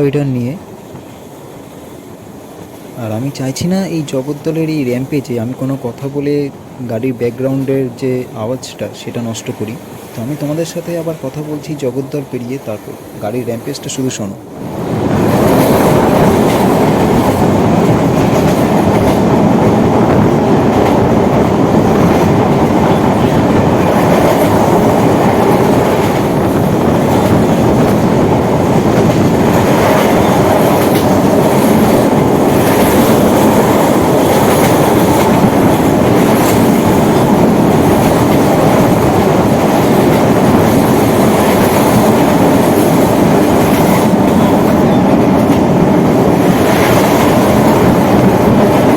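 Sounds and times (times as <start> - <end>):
track clacks: 0.0 - 48.9
train wheels rushing on rail: 0.0 - 48.9.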